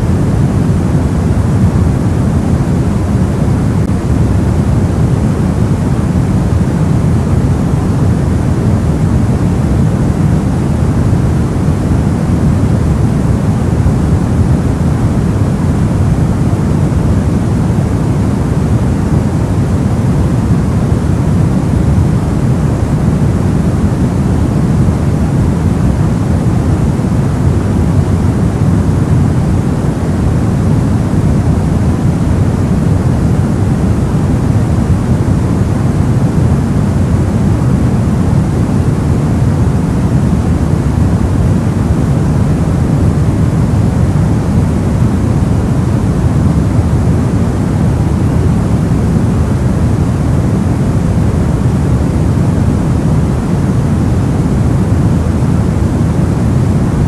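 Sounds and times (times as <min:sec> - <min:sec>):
low white noise hiss: 0:00.0 - 0:57.0.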